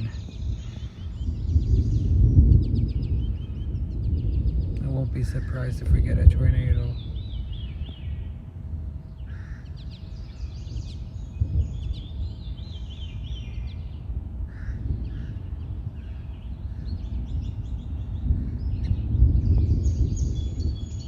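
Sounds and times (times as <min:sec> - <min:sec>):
harsh bird calls: 0:00.0 - 0:08.4, 0:09.1 - 0:21.0
birds chirping and trilling: 0:00.0 - 0:21.0
steady low rumble: 0:00.0 - 0:21.0.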